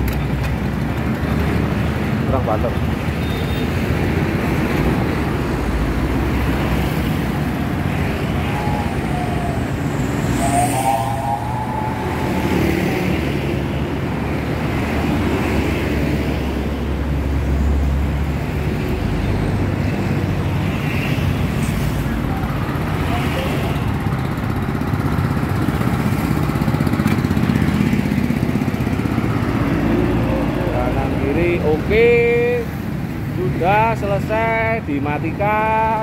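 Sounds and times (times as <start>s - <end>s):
passing street traffic: 0.0s - 36.0s.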